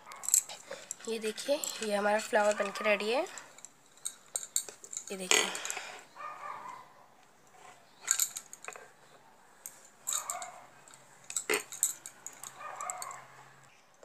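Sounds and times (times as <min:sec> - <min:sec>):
light clinking and rattling: 0:00.0 - 0:14.0.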